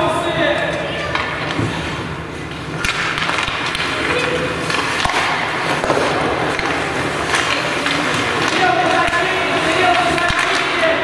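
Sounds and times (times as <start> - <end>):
clacks of sticks and puck: 0.6 - 11.0
skates scraping on ice: 1.4 - 11.0.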